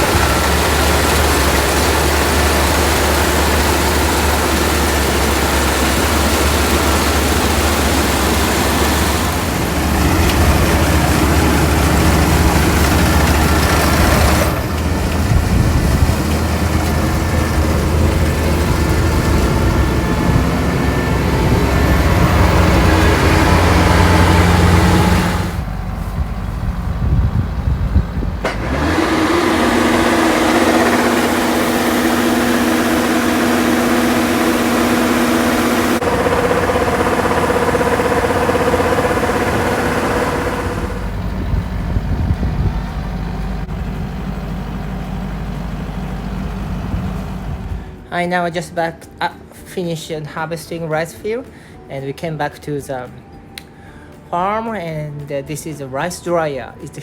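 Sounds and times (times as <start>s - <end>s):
machinery whines: 0.0s - 48.1s
combine harvester engine hum: 0.0s - 50.0s.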